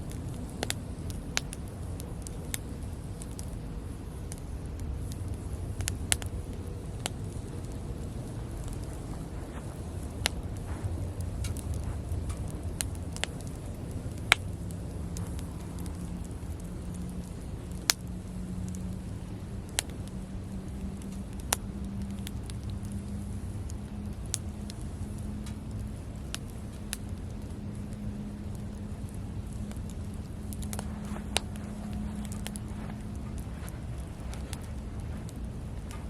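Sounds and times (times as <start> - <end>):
campfire crackling: 0.0 - 36.0
faint low hum: 0.0 - 36.0
low fire rumble: 0.0 - 36.0.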